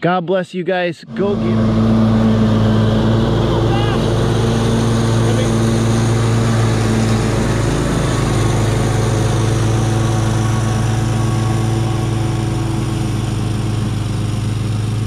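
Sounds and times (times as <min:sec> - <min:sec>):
lawn mower engine hum: 0:01.1 - 0:15.0.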